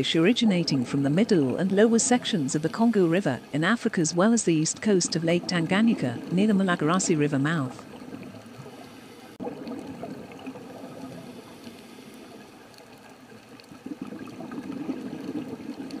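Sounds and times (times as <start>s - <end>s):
trickling bubbling water: 0.0s - 16.0s.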